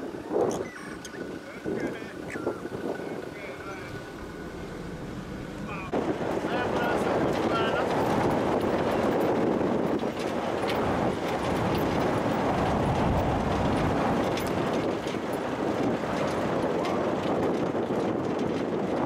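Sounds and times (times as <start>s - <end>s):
vehicle engine and road noise: 0.0s - 19.0s
wind buffeting microphone: 0.0s - 19.0s.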